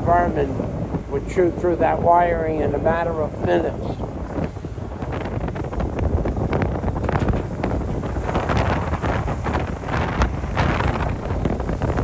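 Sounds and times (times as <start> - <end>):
ship running noise: 0.0 - 12.0
wind buffeting microphone: 0.0 - 12.0.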